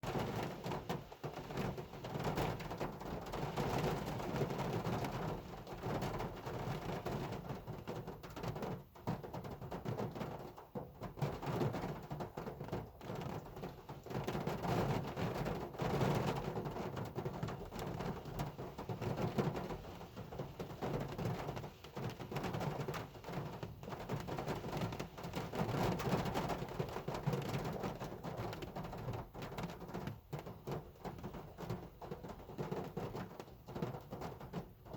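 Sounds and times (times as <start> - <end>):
hard rain on a car: 0.0 - 34.9.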